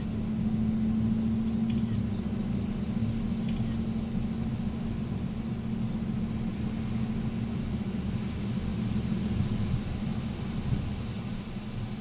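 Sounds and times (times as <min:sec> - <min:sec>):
vehicle rumble on sand: 0:00.0 - 0:12.0.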